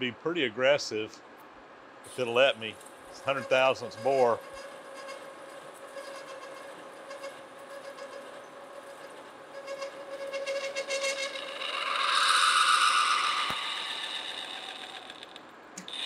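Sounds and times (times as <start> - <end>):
high ringing from metal cutting: 2.1 - 15.1
metal lathe humming: 2.1 - 16.0.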